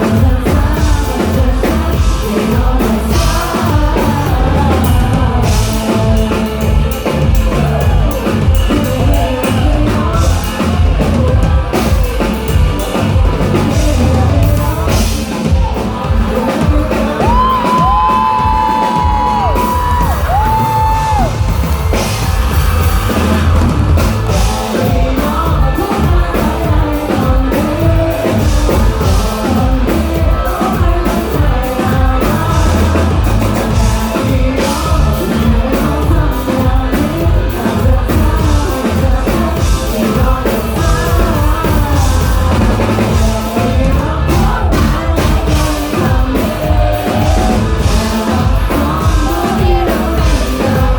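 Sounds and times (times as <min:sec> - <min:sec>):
live rock band playing: 0:00.0 - 0:50.9
person singing: 0:00.0 - 0:50.9
pounding drum kit: 0:00.0 - 0:50.9.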